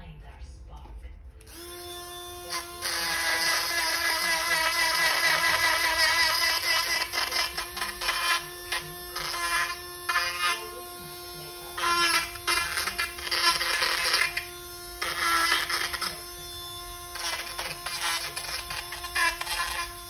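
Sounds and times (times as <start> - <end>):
rotary tool whine: 1.5 - 20.0.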